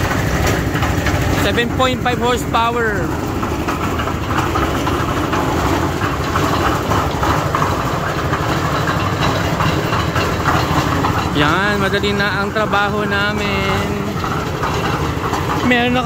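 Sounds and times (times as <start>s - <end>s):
cement mixer engine running: 0.0s - 16.0s.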